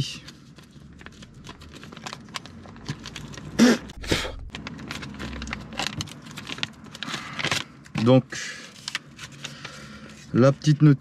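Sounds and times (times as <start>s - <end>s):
paper rustling: 0.0s - 10.5s.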